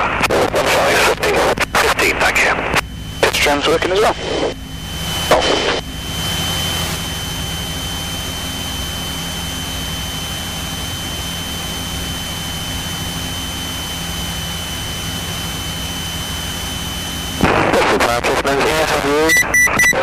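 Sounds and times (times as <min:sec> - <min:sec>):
propeller plane engine idling: 0:00.0 - 0:19.3.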